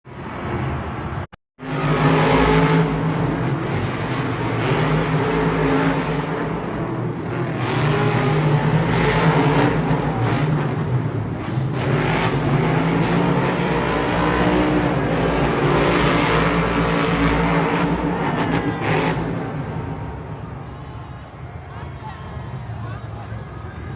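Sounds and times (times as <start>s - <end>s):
truck engines revving: 0.0s - 23.9s.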